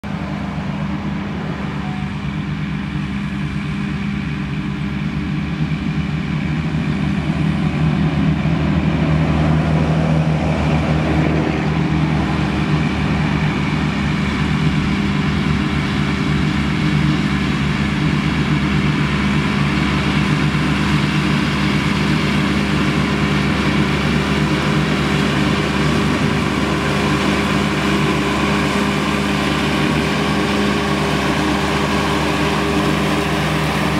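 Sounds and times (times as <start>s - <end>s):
mower running: 0.0s - 33.9s
tractor engine running: 0.0s - 33.9s.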